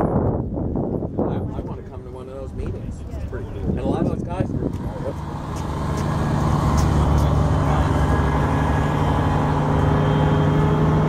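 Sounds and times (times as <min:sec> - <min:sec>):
engine running steadily: 0:01.0 - 0:11.0.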